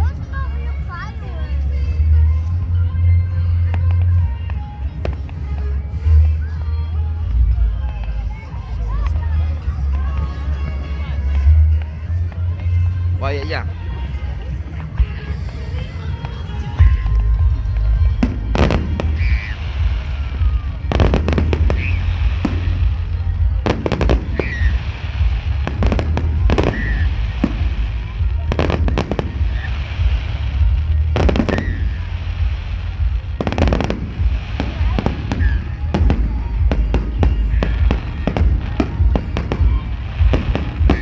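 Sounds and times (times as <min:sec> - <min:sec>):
low rumble: 0:00.0 - 0:41.0
fireworks bangs and crackling: 0:03.3 - 0:41.0.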